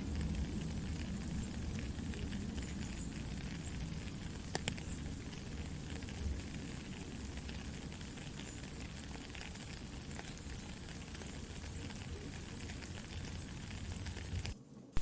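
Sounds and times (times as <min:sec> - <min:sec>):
campfire popping and crackling: 0:00.0 - 0:15.0
low steady rumble: 0:00.0 - 0:15.0
soft rain falling: 0:00.0 - 0:15.0.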